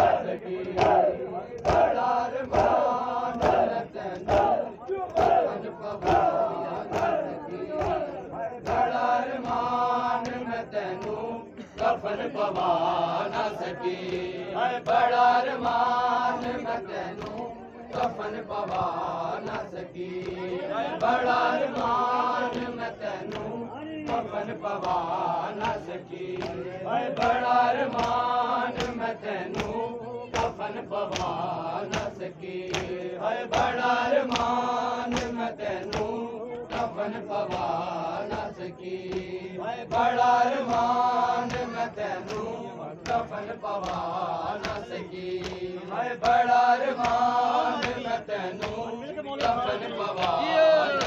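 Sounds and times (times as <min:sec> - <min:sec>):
hands slapping chests: 0:00.0 - 0:38.5, 0:39.1 - 0:51.0
men chanting a lament: 0:00.0 - 0:51.0.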